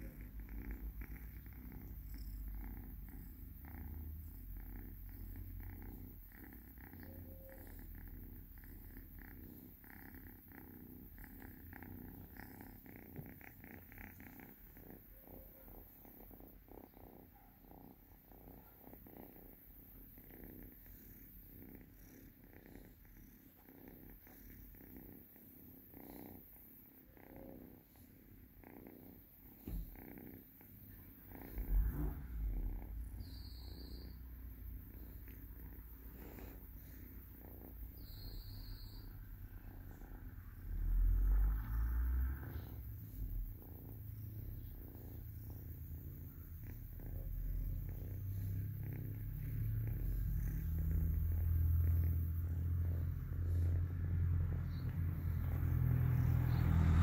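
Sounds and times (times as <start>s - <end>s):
kitten purring: 0.0s - 57.0s.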